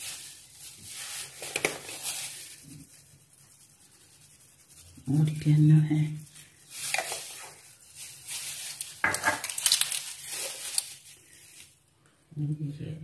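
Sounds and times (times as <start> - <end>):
dried herbs crinkling: 0.0 - 11.9.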